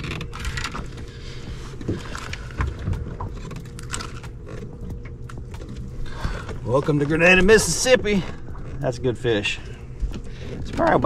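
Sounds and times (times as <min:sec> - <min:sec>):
water lapping at hull: 0:00.0 - 0:11.0.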